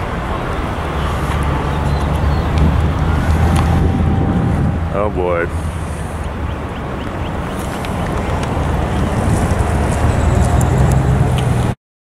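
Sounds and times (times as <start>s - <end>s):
storm wind buffeting microphone: 0.0s - 11.8s.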